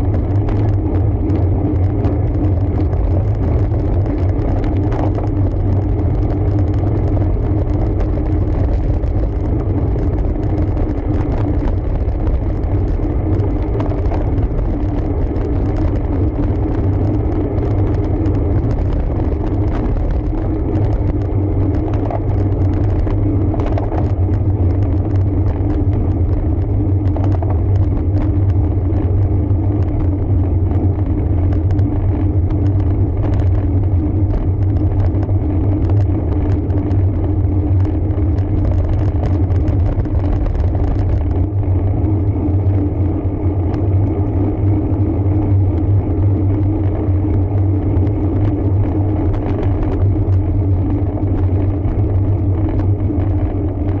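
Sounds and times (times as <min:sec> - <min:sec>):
wind and road noise rumble: 0:00.0 - 0:54.0.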